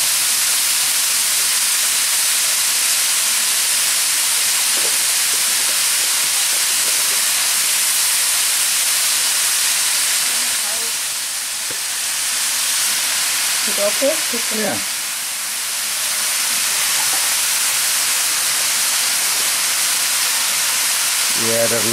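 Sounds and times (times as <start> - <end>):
potatoes sizzling in oil: 0.0 - 21.9.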